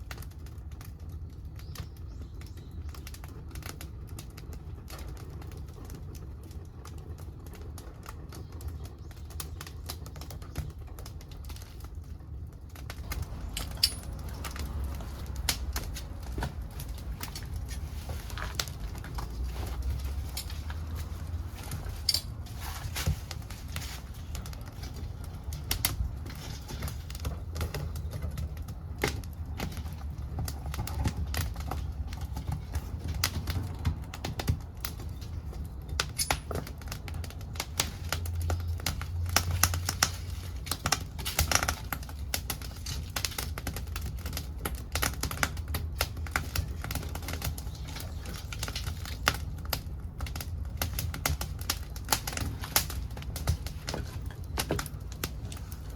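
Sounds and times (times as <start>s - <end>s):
low rumble of burning: 0.0s - 55.9s
wood fire crackling and popping: 0.0s - 55.9s.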